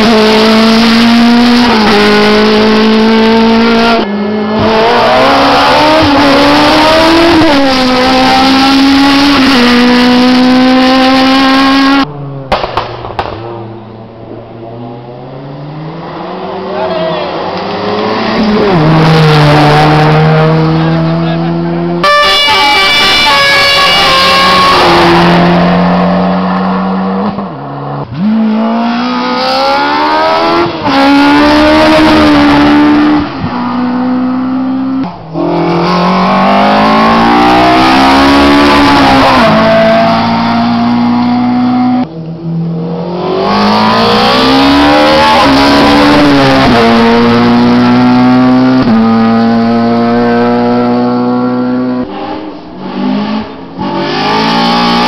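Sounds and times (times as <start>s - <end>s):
race car engine revving: 0.0s - 12.1s, 13.2s - 55.0s.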